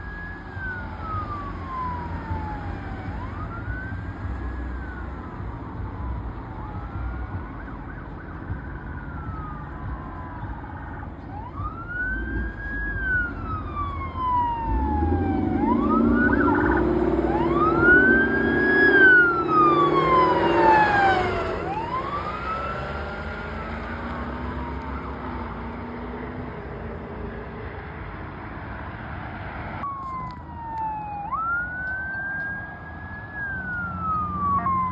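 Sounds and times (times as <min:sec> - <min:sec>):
emergency vehicle sirens wailing: 0:00.0 - 0:34.9
vehicle engine noise: 0:00.0 - 0:34.9.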